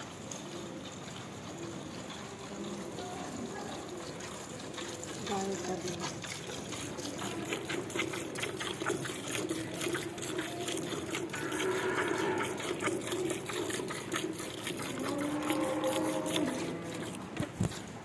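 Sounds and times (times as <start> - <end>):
milk squirting into pail: 2.5 - 18.0.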